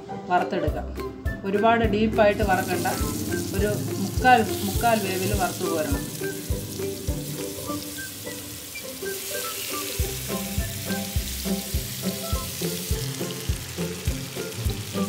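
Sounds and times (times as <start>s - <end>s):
background music with steady beat: 0.0s - 15.0s
chicken sizzling in oil: 2.3s - 15.0s.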